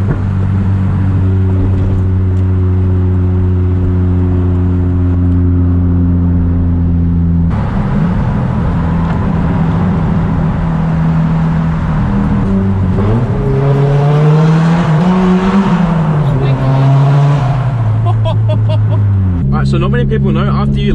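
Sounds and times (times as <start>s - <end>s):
car engine through exhaust: 0.0s - 20.9s.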